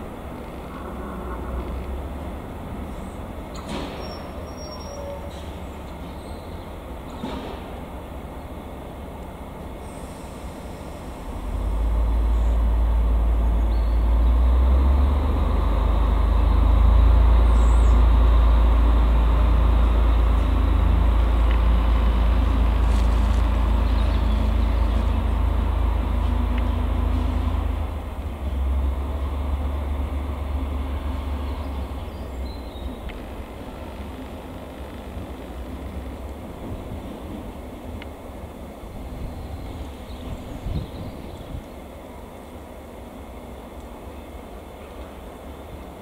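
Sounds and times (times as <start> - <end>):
diesel locomotive engine rumbling: 0.0 - 46.0.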